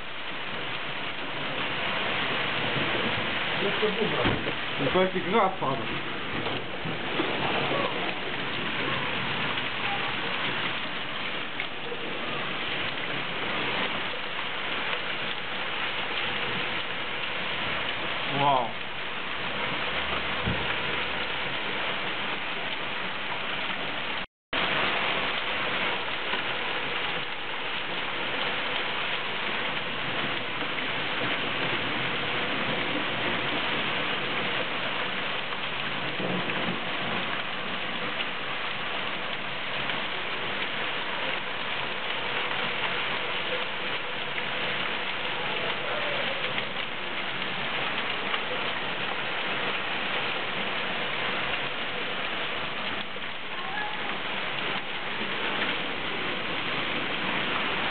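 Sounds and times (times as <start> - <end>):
hail and rain pattering on lawn: 0.0 - 57.9.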